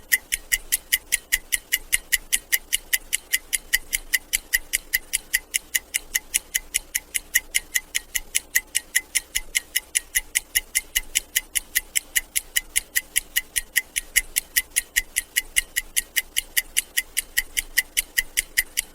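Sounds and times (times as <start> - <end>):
stopwatch ticking: 0.0 - 18.9.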